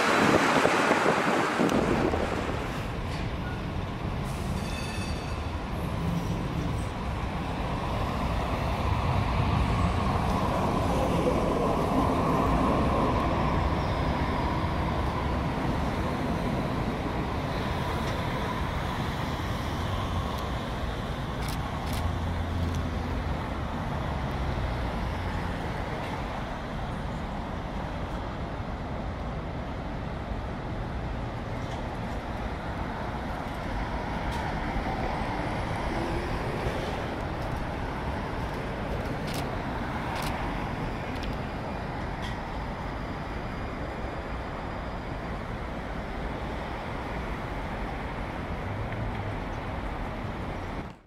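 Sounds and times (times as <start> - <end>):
street traffic noise: 0.0 - 51.0
streetcar electric hum and rumble: 0.0 - 51.0.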